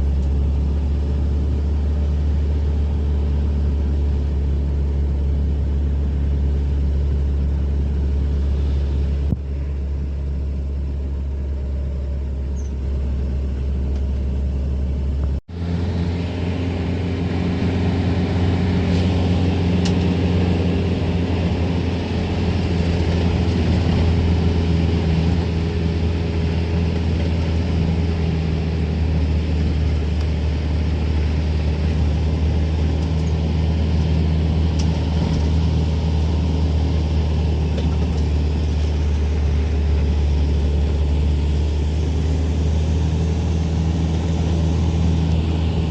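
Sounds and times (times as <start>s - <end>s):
low rumble with droning hum: 0.0s - 45.9s.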